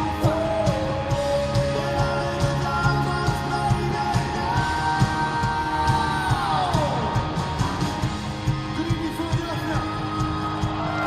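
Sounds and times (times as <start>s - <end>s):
crowd voices: 0.0s - 11.0s
live rock band playing: 0.0s - 11.0s
steady drum beat: 0.0s - 11.0s.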